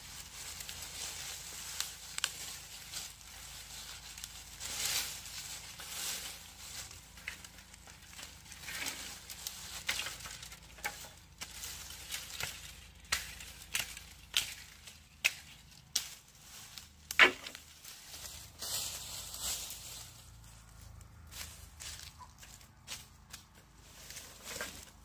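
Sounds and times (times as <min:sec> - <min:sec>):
dry rustling: 0:00.0 - 0:25.0.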